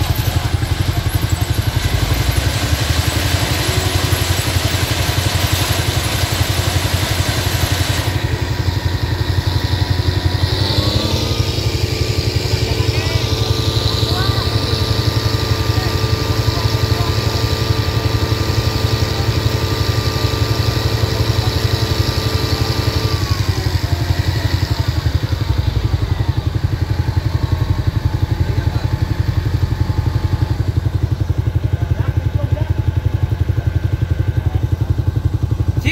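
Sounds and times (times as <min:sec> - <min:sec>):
diesel engine throbbing: 0:00.0 - 0:35.9.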